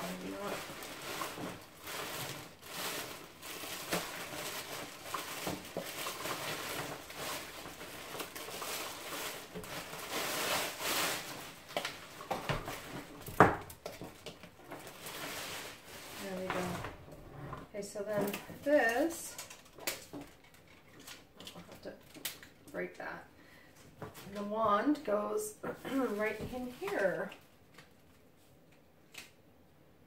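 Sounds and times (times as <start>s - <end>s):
plastic wrap crinkling: 0.0s - 17.1s, 18.0s - 23.0s, 25.8s - 29.3s.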